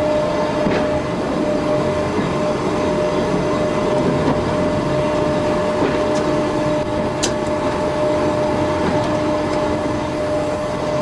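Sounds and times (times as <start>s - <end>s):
electric train running over track: 0.0s - 11.0s.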